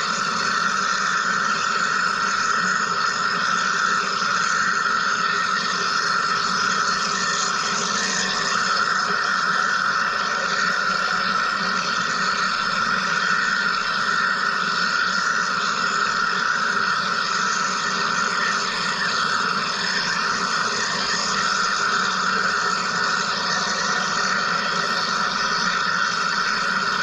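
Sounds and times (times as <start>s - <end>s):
machine hissing and humming: 0.0s - 27.0s.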